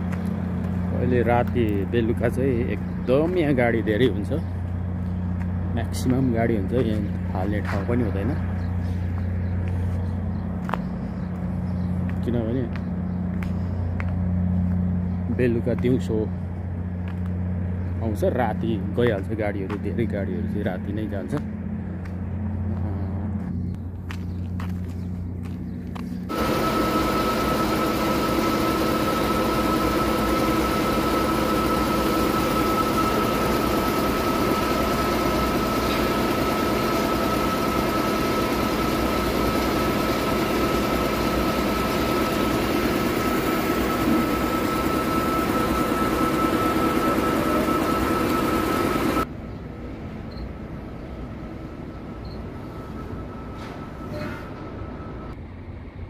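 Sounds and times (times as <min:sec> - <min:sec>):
air compressor running: 0:00.0 - 0:19.9, 0:20.8 - 0:49.3.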